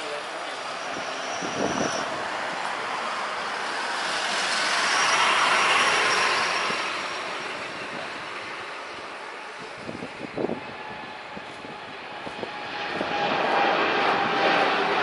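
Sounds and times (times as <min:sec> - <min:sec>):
jet airliner taking off: 0:00.0 - 0:15.0
thin high engine whine: 0:00.0 - 0:15.0.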